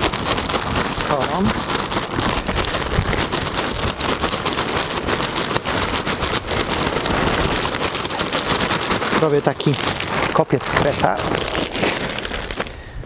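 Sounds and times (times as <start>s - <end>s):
mulch chips pouring from bag: 0.0s - 13.0s.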